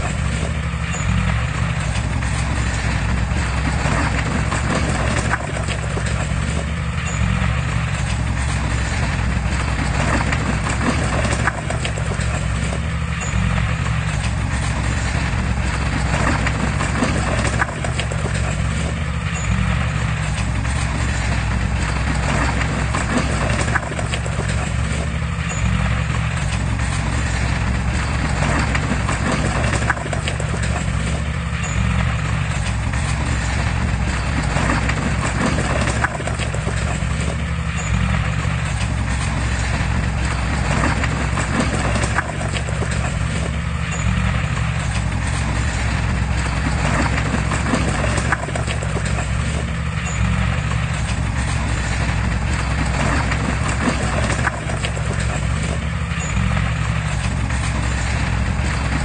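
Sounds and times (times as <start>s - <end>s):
diesel engine running: 0.0s - 59.0s
steel tracks rattling and clanking: 0.0s - 59.0s.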